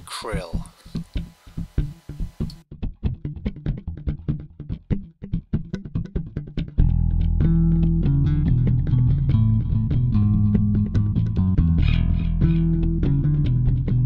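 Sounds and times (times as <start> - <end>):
bass guitar: 1.8 - 14.0
plucked guitar notes: 2.7 - 14.0.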